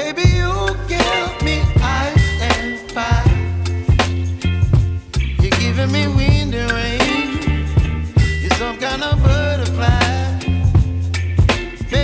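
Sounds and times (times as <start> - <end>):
soul song with singing and drums: 0.0 - 12.0.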